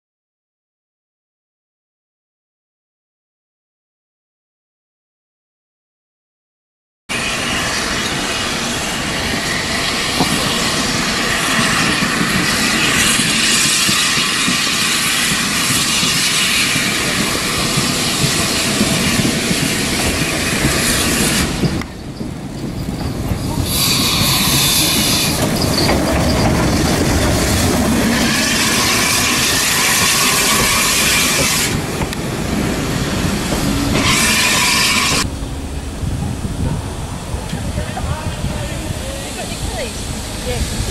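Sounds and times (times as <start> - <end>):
train wheels clattering on rails: 8.0 - 40.9.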